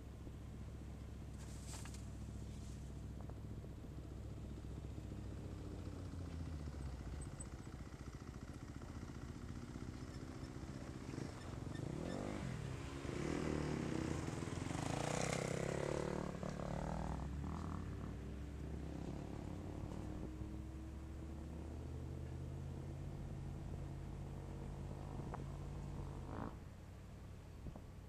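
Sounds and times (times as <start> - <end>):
vehicle engine running low: 0.0 - 28.0.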